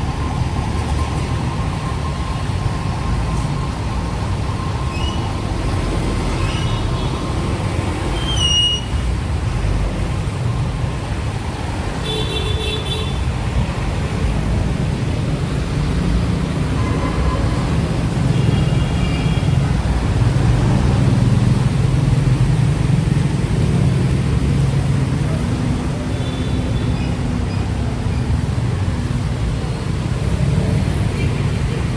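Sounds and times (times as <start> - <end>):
vehicle engines running: 0.0 - 12.0, 13.1 - 31.9.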